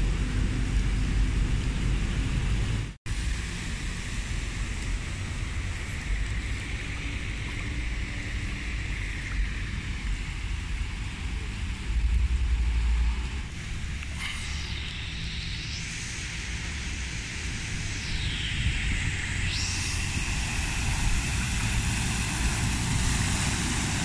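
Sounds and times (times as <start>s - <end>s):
traffic on wet street: 0.0s - 18.0s, 19.6s - 24.0s
wind buffeting microphone: 0.0s - 24.0s
water hiss: 3.1s - 24.0s.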